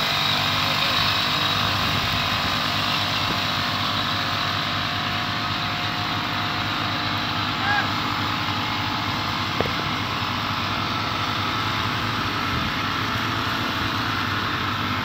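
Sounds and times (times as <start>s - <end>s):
crop sprayer engine running: 0.0s - 15.0s.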